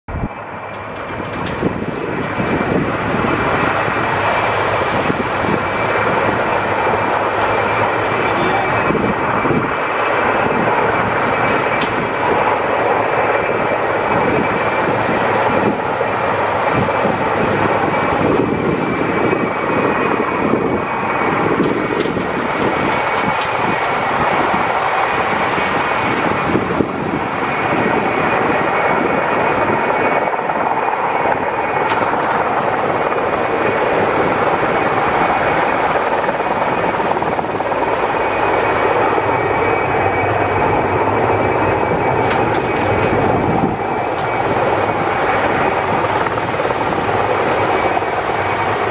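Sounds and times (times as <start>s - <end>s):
helicopter rotor and engine: 0.1s - 48.9s.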